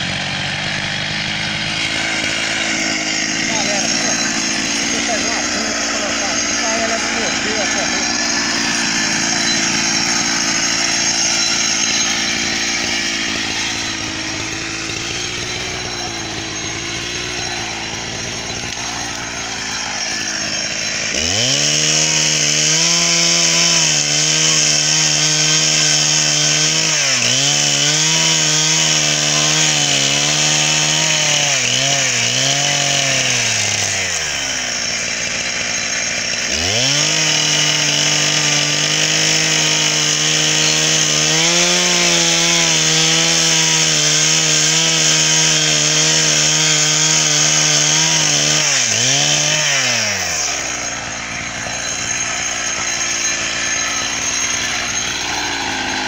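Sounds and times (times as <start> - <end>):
chainsaw cutting and revving: 0.0 - 56.0.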